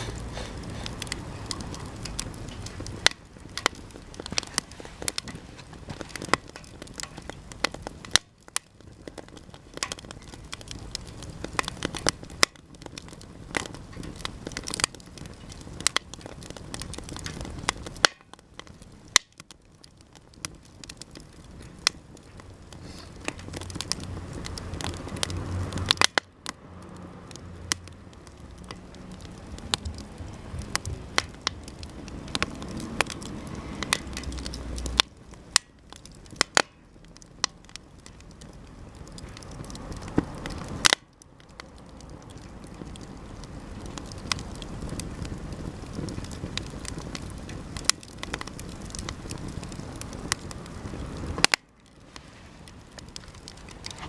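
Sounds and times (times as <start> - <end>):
campfire crackling and popping: 0.0 - 54.0
low continuous rush of fire: 0.0 - 54.0.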